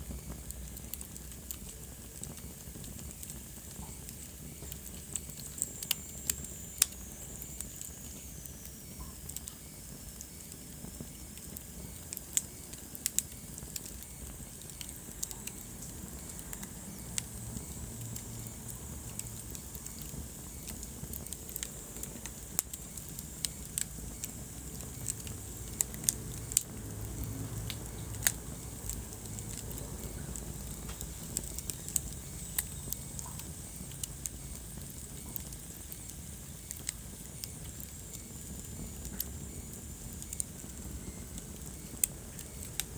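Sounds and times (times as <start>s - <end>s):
low rumble of flame: 0.0s - 42.9s
wood fire crackling and popping: 0.0s - 42.9s.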